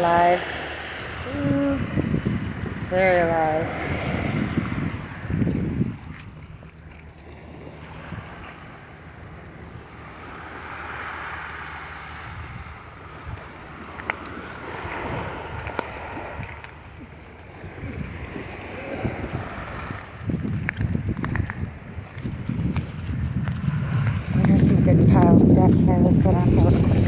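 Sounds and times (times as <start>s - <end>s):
surf washing on beach: 0.0s - 27.0s
wind on microphone: 0.0s - 27.0s.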